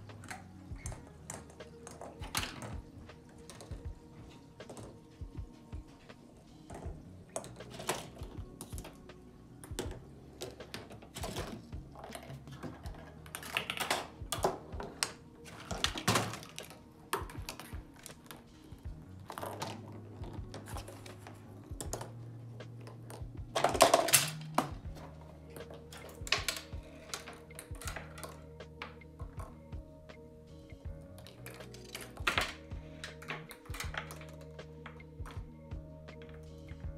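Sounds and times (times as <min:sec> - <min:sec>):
balls and parts clicking and rattling: 0:00.0 - 0:29.9, 0:30.6 - 0:36.9.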